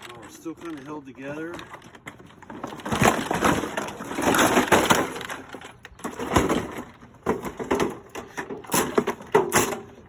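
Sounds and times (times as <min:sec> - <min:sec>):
metal and plastic parts cracking: 0:00.0 - 0:10.0.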